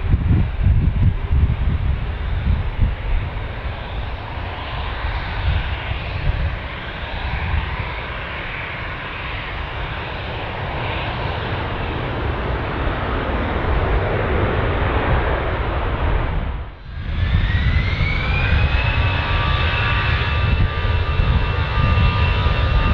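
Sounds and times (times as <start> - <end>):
airliner engine rumble and hiss: 0.0 - 22.9.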